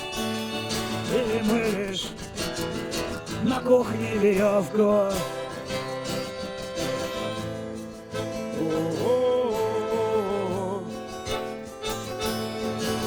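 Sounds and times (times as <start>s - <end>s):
guitar playing: 0.0s - 13.0s.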